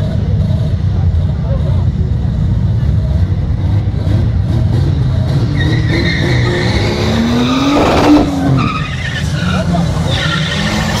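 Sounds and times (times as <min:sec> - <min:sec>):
loud car engine revving: 0:00.0 - 0:11.0.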